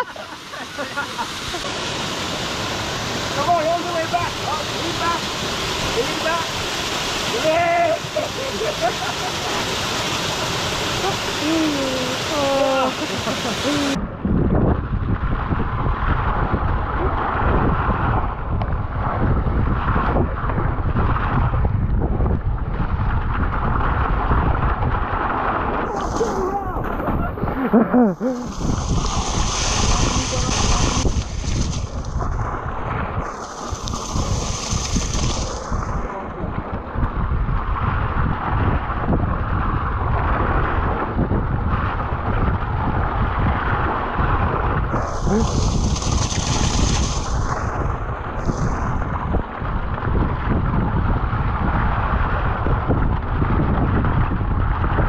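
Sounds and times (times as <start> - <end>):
bike tyres splashing through water: 0.0 - 14.0, 15.0 - 55.0
wind buffeting microphone: 1.2 - 55.0.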